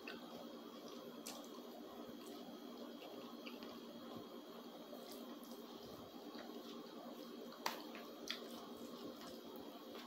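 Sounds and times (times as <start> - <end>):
wet chewing: 0.0 - 4.2, 4.9 - 10.0.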